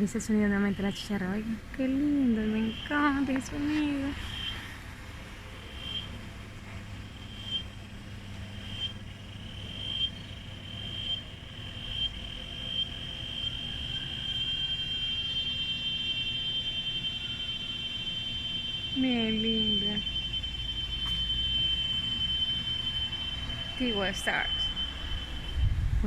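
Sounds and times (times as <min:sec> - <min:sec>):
cicada buzzing: 0:00.0 - 0:26.0.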